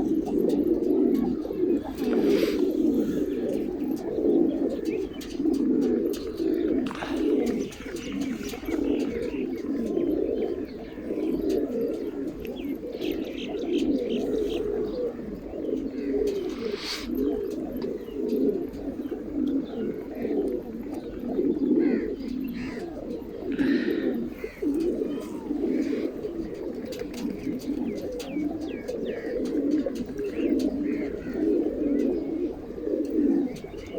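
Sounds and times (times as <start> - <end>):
pigeons cooing: 0.0 - 33.9
small birds chirping: 0.0 - 33.9.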